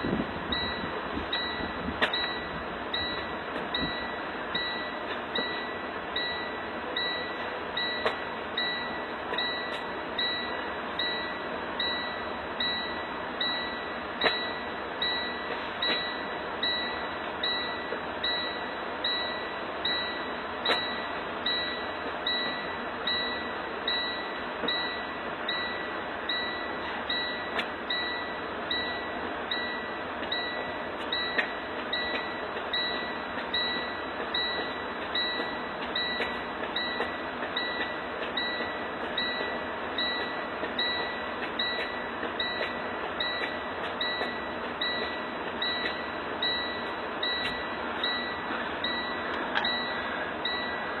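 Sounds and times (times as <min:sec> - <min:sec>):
steady noise: 0:00.0 - 0:51.0
electronic chime dings: 0:00.5 - 0:51.0.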